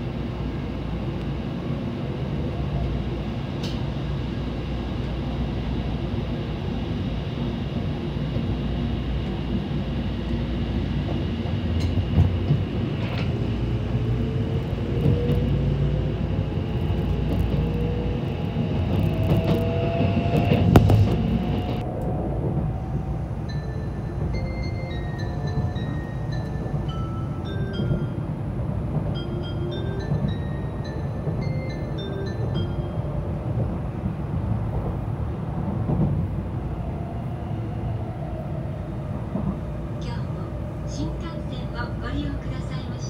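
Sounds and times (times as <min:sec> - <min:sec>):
train low rumble: 0:00.0 - 0:43.0.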